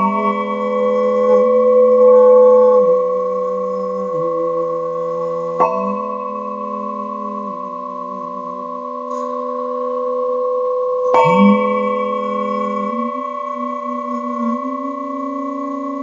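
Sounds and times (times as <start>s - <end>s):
singing bowl strike: 0.0s - 16.0s
singing bowls ringing: 0.0s - 16.0s.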